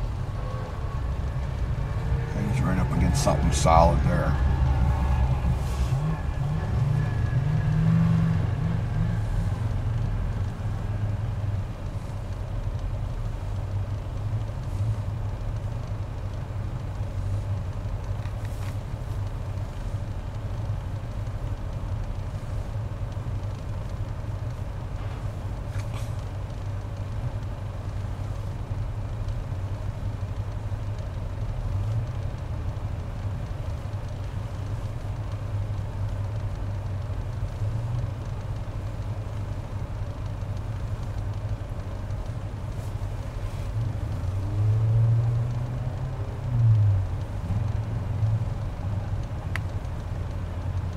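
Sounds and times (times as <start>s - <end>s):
truck engines rumbling: 0.0s - 50.9s.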